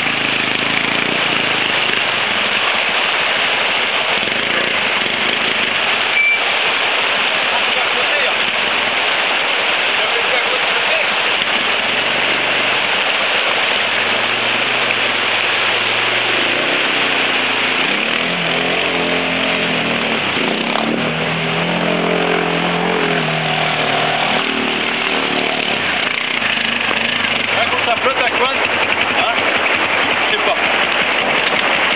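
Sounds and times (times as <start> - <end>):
quad engine revving: 0.0 - 6.4, 10.7 - 31.9
water rushing: 0.0 - 31.9.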